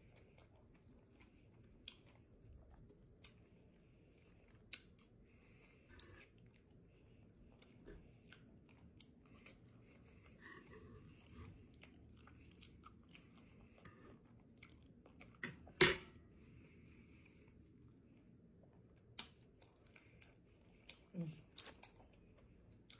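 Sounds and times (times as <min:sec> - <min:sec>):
person chewing wetly: 0:00.0 - 0:15.8, 0:17.1 - 0:22.9.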